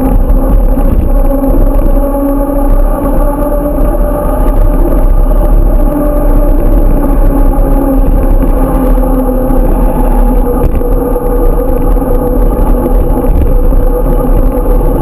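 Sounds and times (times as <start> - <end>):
bike riding hum: 0.0 - 15.0
heavy low rumble: 0.0 - 15.0.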